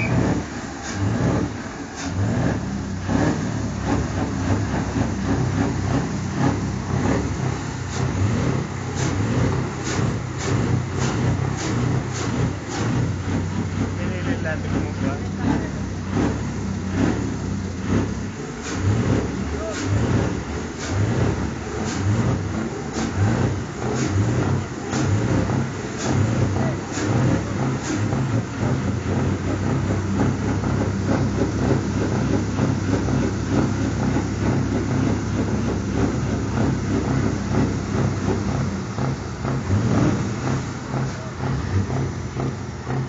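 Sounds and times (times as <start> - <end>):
truck diesel engine at low revs: 0.0 - 43.0.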